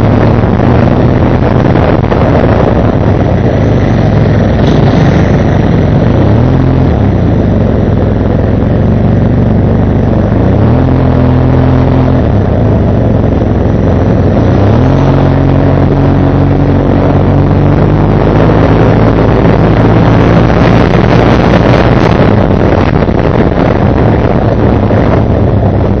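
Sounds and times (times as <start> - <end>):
motorcycle engine revving: 0.0 - 26.0
road and wind noise: 0.0 - 26.0.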